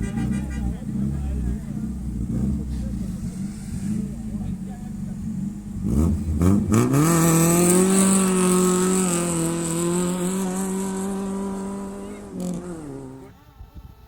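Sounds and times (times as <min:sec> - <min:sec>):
rally car engine accelerating: 0:00.0 - 0:13.4.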